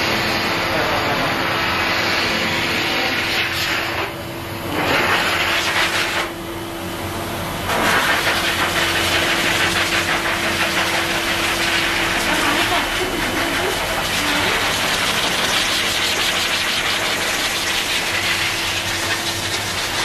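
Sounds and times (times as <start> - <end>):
dryer blowing air hiss: 0.0 - 20.0
dryer motor hum: 0.0 - 20.0.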